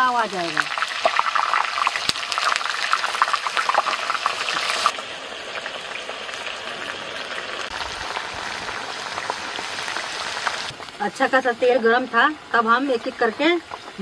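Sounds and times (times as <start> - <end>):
potato slices sizzling in oil: 0.0 - 14.0.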